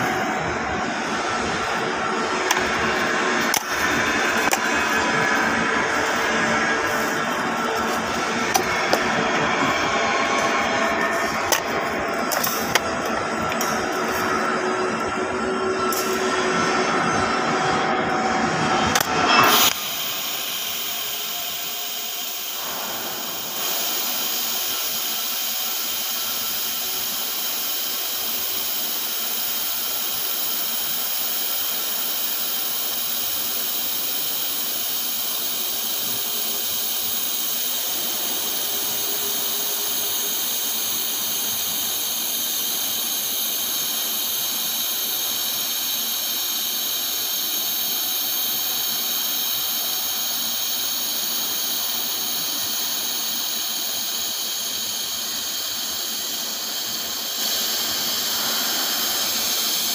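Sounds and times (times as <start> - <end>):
welding arc hissing: 0.0 - 17.6, 18.3 - 59.9.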